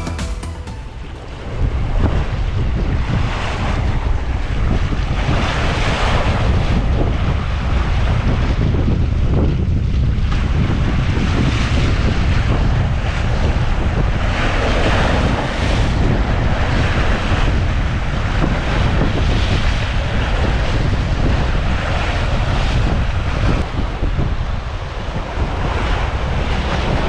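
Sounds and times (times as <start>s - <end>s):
wind buffeting microphone: 1.3s - 27.0s.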